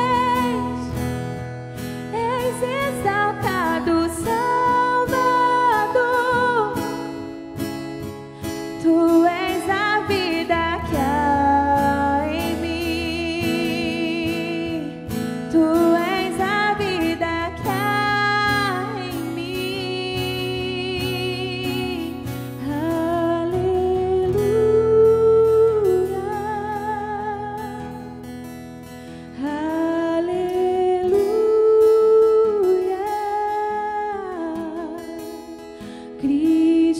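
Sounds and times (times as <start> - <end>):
woman singing worship song: 0.0 - 7.2, 8.7 - 28.1, 29.3 - 36.9
acoustic guitar: 0.0 - 36.9.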